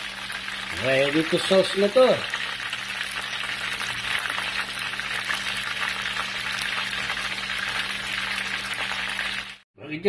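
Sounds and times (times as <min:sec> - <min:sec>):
fish sizzling in hot oil: 0:00.0 - 0:09.6.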